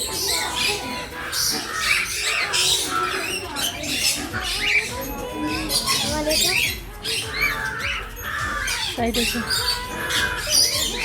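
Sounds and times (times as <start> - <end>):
birds chattering and squawking: 0.0 - 11.0.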